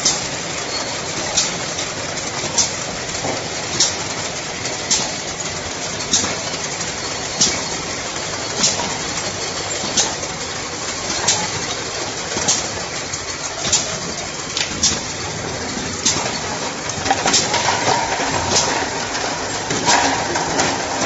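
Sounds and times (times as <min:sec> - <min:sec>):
bottling machine clattering: 0:00.0 - 0:21.0.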